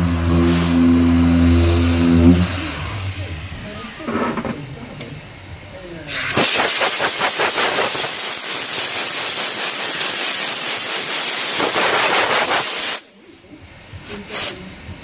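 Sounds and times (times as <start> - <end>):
compressed air hissing: 0.0 - 4.4, 6.1 - 13.1, 14.0 - 14.7.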